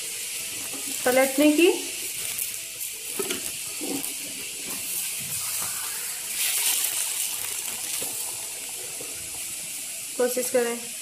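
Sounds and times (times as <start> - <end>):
egg sizzling in hot oil: 0.0 - 11.0.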